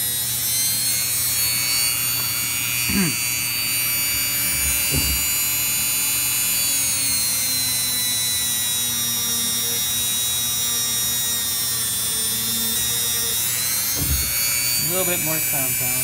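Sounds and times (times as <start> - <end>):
rotary tool whining: 0.0 - 16.0.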